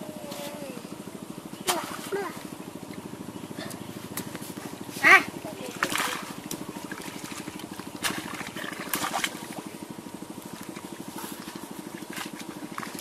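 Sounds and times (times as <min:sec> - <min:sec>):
fast pulsing drone: 0:00.0 - 0:13.0
bare feet splashing in muddy water: 0:01.6 - 0:13.0.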